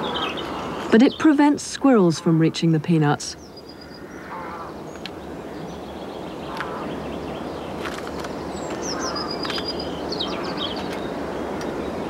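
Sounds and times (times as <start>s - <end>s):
birds chirping: 0.0s - 12.0s
steady background noise: 0.0s - 12.0s.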